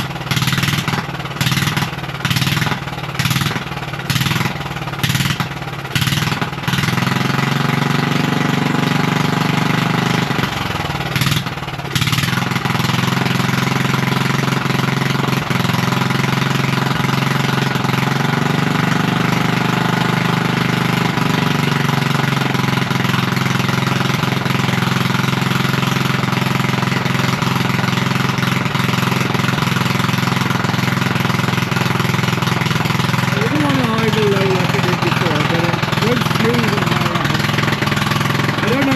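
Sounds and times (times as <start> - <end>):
lawn mower engine revving: 0.0 - 38.9.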